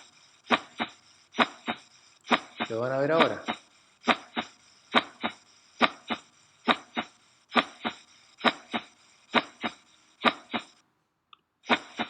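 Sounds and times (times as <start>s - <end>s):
heartbeat thuds: 0.0s - 10.8s.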